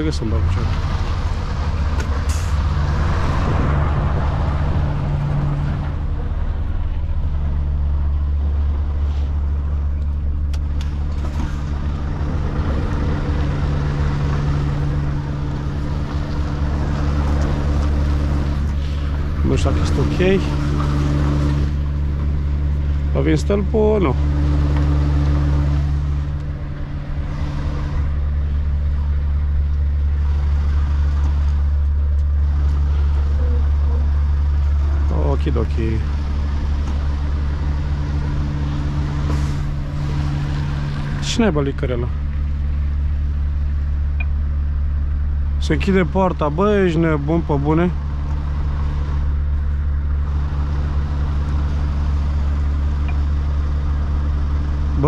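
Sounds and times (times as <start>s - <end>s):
diesel engine low drone: 0.0s - 55.0s.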